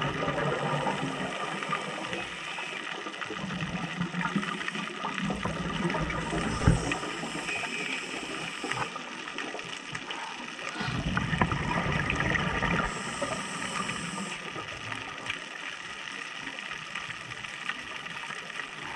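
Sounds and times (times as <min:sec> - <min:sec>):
exhaled bubbles gurgling: 0:00.0 - 0:18.9
light crackle of water: 0:00.0 - 0:18.9.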